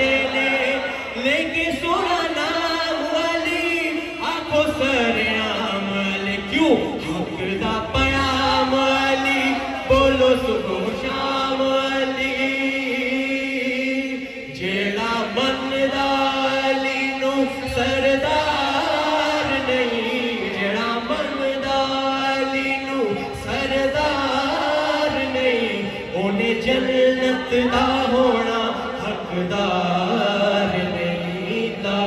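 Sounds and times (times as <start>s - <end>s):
men chanting through microphones: 0.0s - 32.0s.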